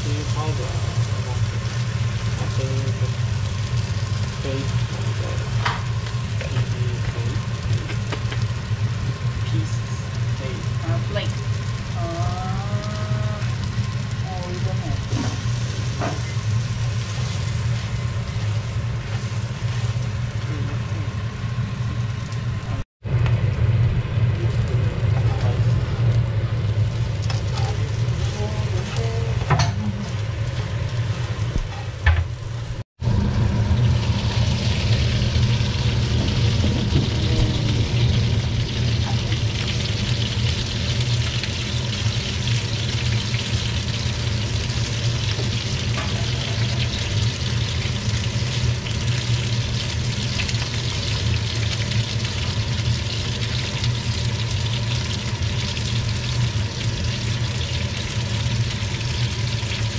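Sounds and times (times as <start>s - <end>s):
prawns sizzling in frying pan: 0.0s - 22.8s, 24.1s - 59.9s
steady low hum: 0.0s - 59.9s.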